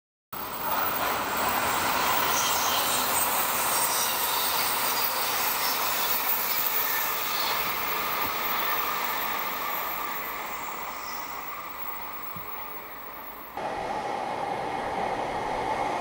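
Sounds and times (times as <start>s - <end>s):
wheel squeal: 0.4s - 13.6s
train running on rails: 0.4s - 16.0s.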